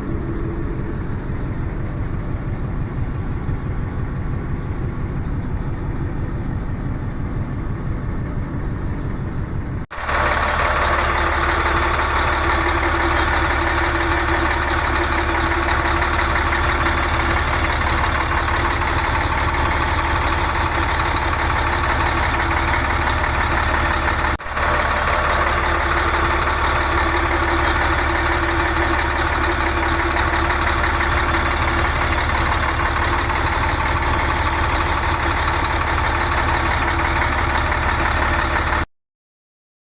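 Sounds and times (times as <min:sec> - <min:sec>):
diesel bus engine idling: 0:00.0 - 0:38.9.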